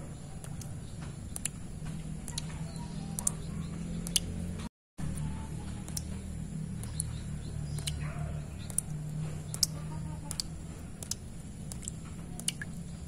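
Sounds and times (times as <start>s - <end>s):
water drops plopping into puddle: 0.4s - 4.4s, 5.2s - 13.0s.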